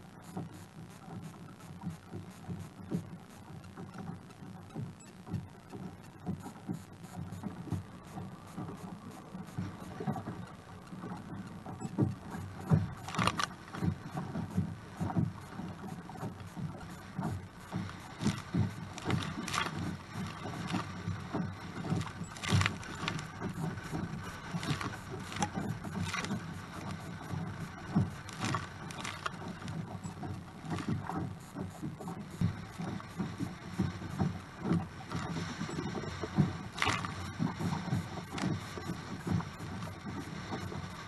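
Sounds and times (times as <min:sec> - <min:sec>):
water splashing against kayak hull: 0:00.0 - 0:41.0.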